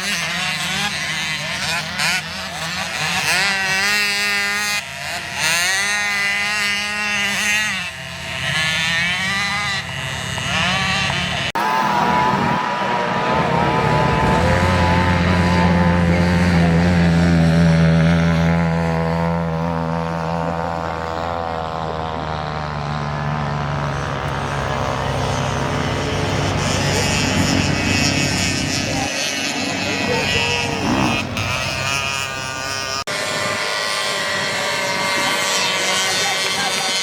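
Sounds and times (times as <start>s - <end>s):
race vehicle engine running: 0.0s - 37.0s.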